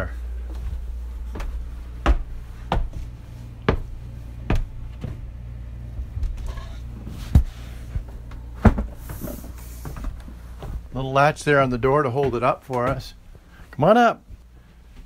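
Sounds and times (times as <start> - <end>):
steady low hum: 0.0 - 15.0
footsteps on wooden stairs: 0.1 - 13.5.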